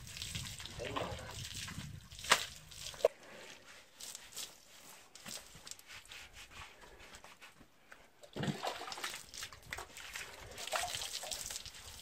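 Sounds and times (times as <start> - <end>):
water splashing and trickling: 0.0 - 6.4, 8.2 - 12.0.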